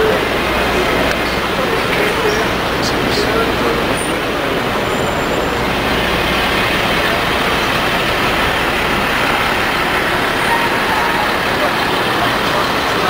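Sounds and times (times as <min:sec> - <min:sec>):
city traffic din: 0:00.0 - 0:13.0.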